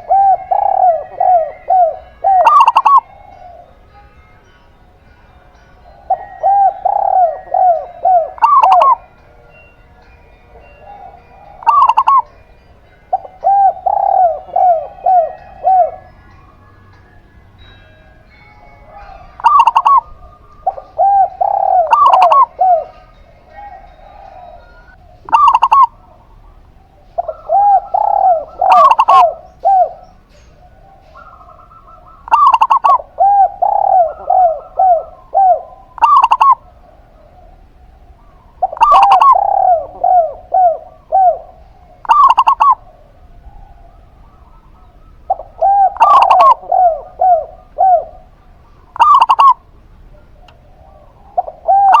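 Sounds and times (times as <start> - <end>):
sharp higher dove coo: 0.0 - 3.8, 6.0 - 9.1, 10.6 - 12.3, 13.1 - 16.5, 18.9 - 52.0
lower rounder dove coos: 0.0 - 4.0, 5.8 - 9.2, 10.4 - 17.2, 18.9 - 52.0.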